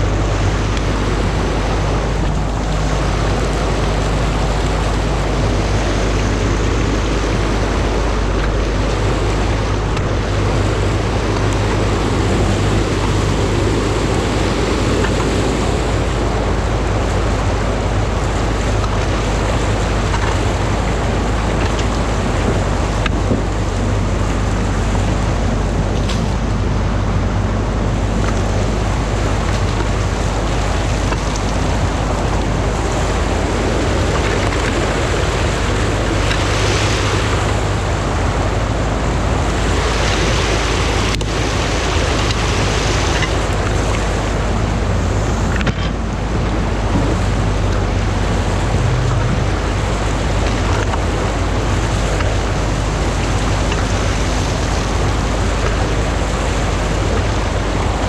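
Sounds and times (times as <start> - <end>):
excavator engine running: 0.0 - 58.0
water rushing over a weir: 0.0 - 58.0.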